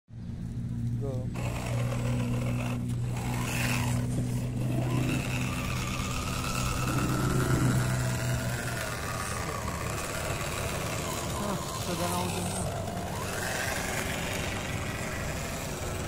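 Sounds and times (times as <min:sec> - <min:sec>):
steady low hum: 0:00.1 - 0:16.0
small electric motor whining: 0:00.8 - 0:16.0.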